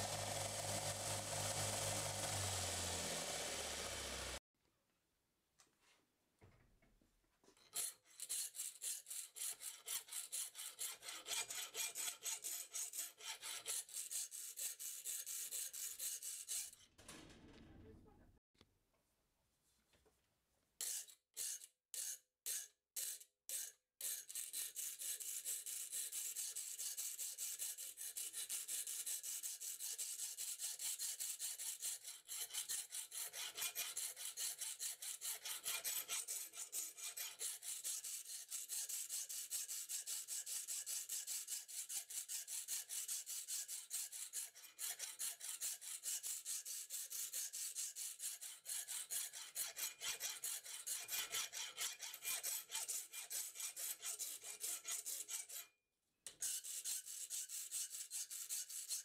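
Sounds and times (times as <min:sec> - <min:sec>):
file scraping on steel blade: 0:00.0 - 0:04.4, 0:07.6 - 0:16.9, 0:20.8 - 0:59.0.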